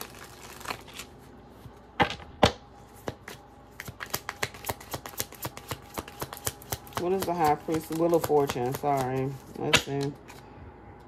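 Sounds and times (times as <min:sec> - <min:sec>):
playing cards shuffling: 0:00.0 - 0:01.8, 0:02.9 - 0:10.4.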